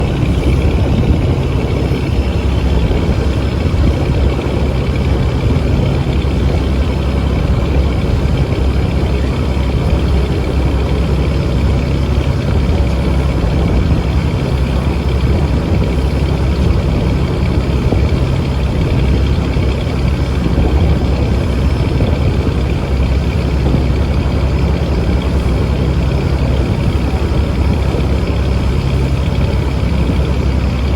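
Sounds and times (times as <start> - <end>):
boat engine droning: 0.0 - 30.9.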